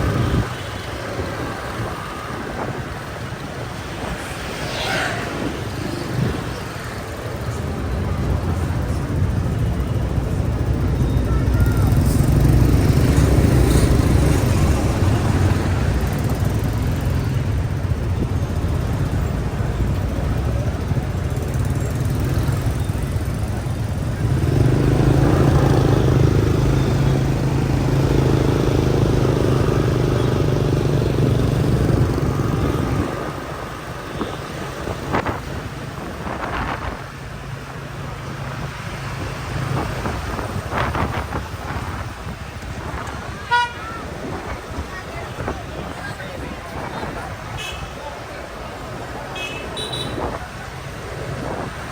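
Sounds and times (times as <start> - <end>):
motorbike engine and road rumble: 0.0 - 51.9.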